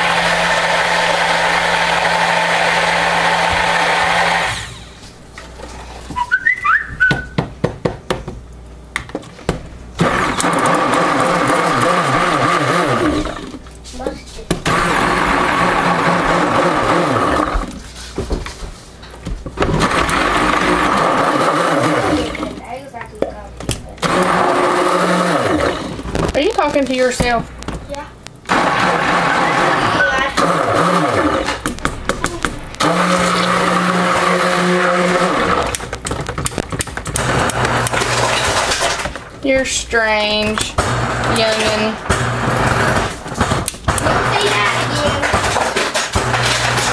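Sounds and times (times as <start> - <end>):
stick blender buzzing: 0.0 - 7.2, 10.0 - 18.0, 19.5 - 22.8, 23.6 - 46.9.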